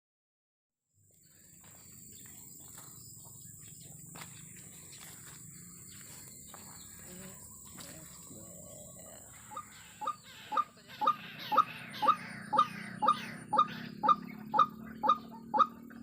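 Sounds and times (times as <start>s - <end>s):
insect buzz like crickets: 1.0s - 16.0s.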